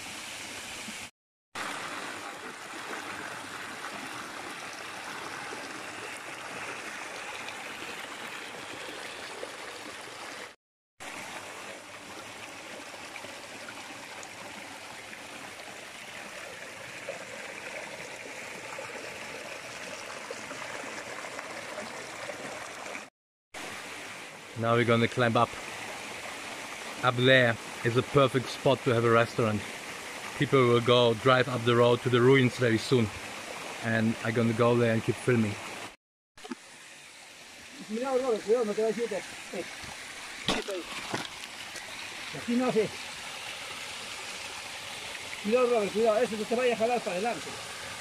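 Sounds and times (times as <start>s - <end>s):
water rushing over rocks: 0.8s - 48.0s.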